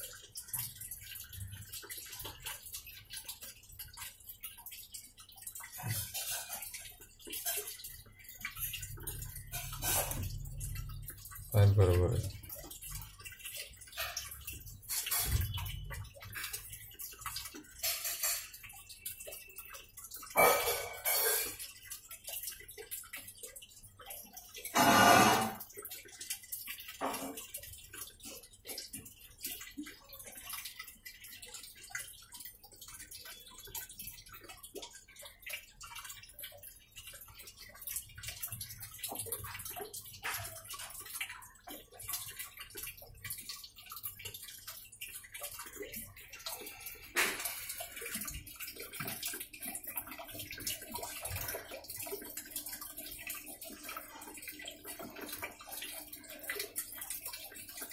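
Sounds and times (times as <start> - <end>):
water sloshing in washing machine: 0.0 - 57.9.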